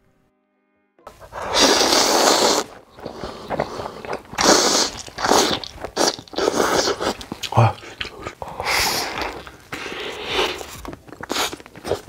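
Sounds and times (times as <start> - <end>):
slurping noodles: 1.1 - 12.0.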